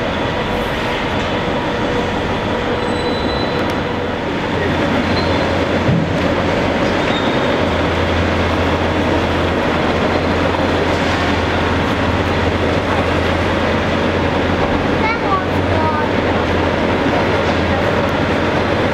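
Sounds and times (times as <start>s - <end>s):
heavy diesel machinery droning: 0.0s - 18.9s.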